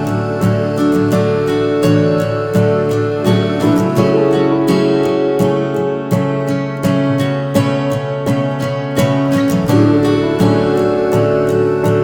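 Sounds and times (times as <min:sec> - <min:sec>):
strummed guitar chords: 0:00.0 - 0:12.0.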